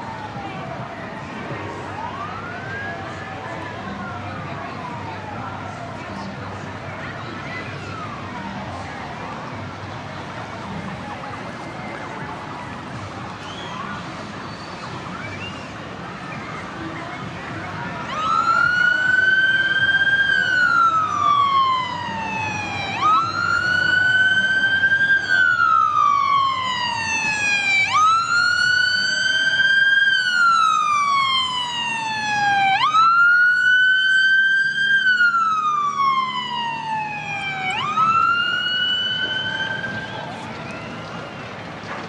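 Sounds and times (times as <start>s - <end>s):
emergency siren wailing: 0.0s - 9.6s, 16.0s - 42.0s.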